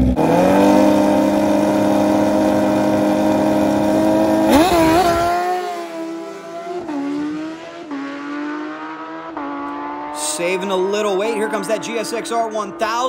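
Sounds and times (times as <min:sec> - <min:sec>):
motorcycle engines revving high: 0:00.0 - 0:13.0
motorcycles launching and upshifting: 0:00.0 - 0:13.0.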